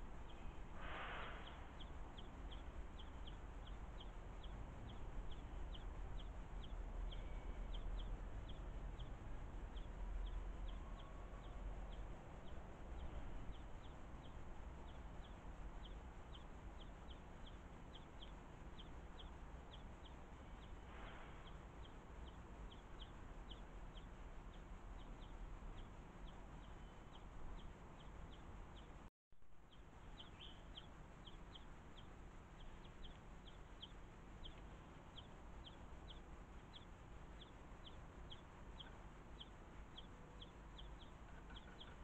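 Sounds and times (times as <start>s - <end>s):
faint low rumble: 0.0s - 42.0s
young bird begging chirps: 0.2s - 28.9s, 29.7s - 42.0s.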